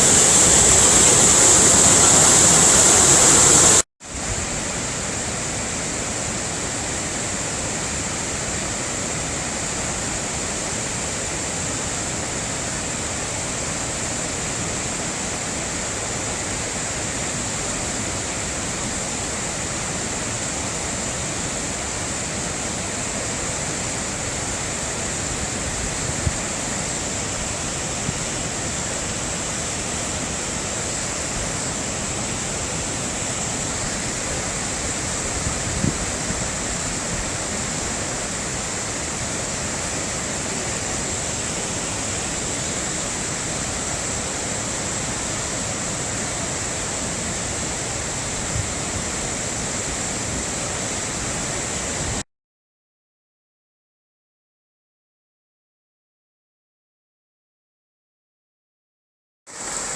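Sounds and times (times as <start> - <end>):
waterfall pouring and splashing: 0.0 - 52.2, 59.5 - 59.9.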